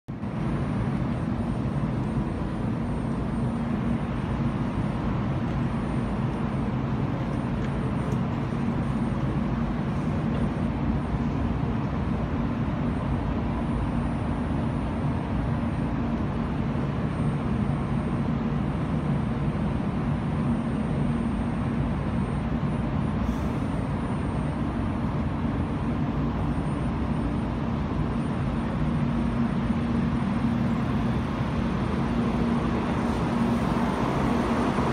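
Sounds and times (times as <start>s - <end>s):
train equipment humming: 0.1s - 34.9s.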